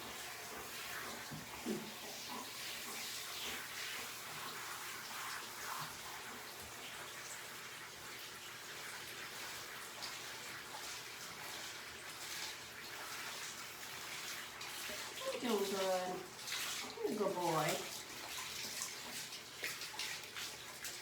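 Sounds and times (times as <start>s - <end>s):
water spraying on wet fur: 0.0s - 21.0s.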